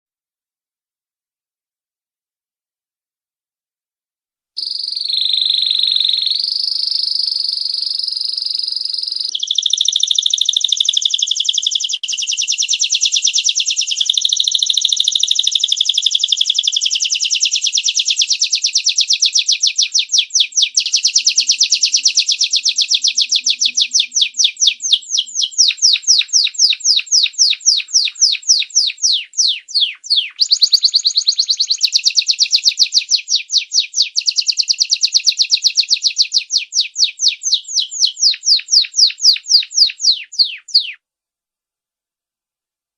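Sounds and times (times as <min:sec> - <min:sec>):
canary singing: 0:04.6 - 0:41.0.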